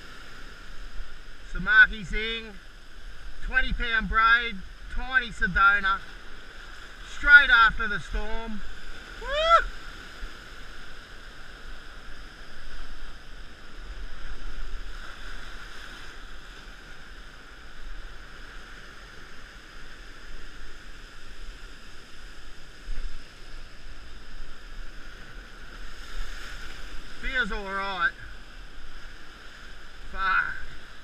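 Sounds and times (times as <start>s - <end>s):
surf washing over rocks: 0.0s - 31.0s.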